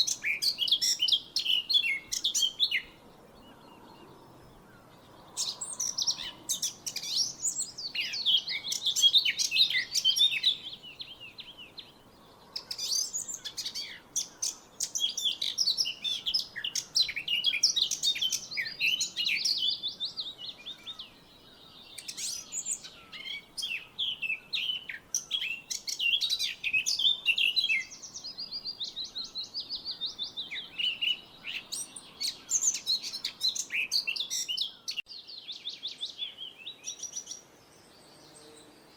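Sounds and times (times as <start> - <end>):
songbird chirping and twittering: 0.0 - 38.9.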